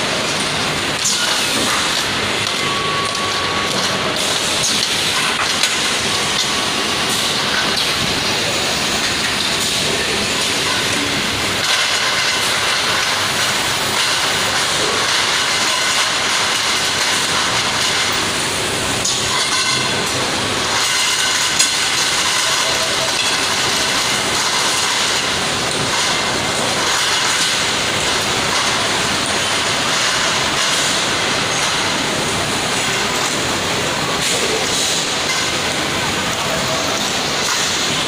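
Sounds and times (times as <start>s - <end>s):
loud machinery noise: 0.0s - 38.0s.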